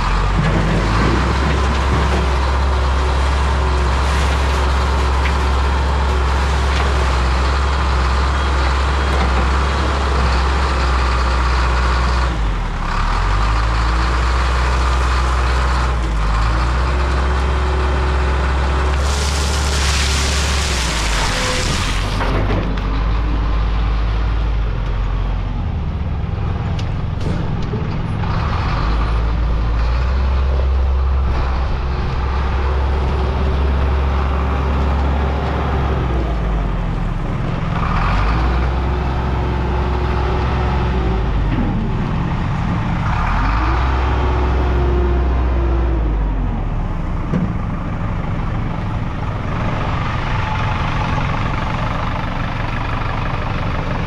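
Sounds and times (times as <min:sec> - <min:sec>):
wheel loader diesel engine revving: 0:00.0 - 0:54.0.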